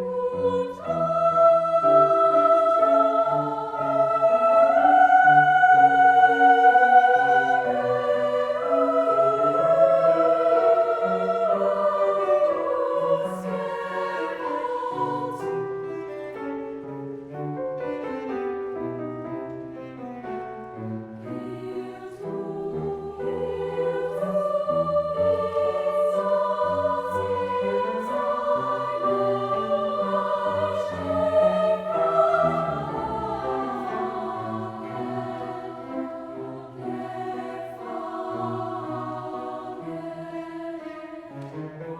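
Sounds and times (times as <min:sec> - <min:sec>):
mixed choir singing: 0:00.0 - 0:18.4, 0:19.9 - 0:41.9.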